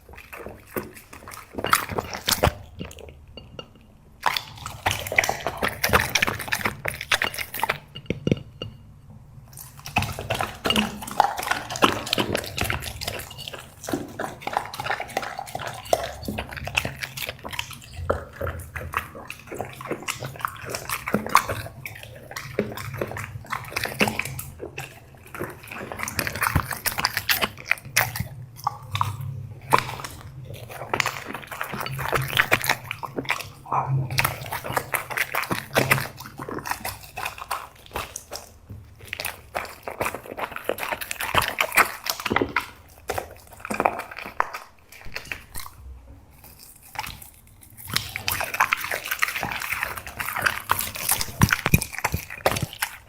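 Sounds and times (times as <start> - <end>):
dog chewing food: 0.0 - 53.0.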